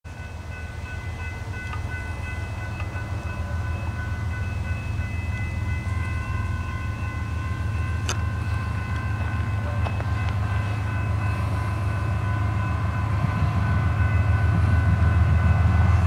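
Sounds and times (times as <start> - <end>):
diesel train engine rumble: 0.0 - 16.0.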